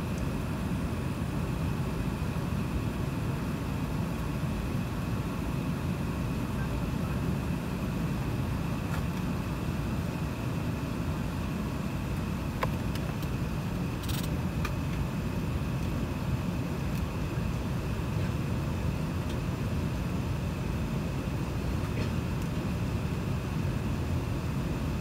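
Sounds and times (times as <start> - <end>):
faint high whine: 0.0 - 25.0
jet engines rumbling in cabin: 0.0 - 25.0.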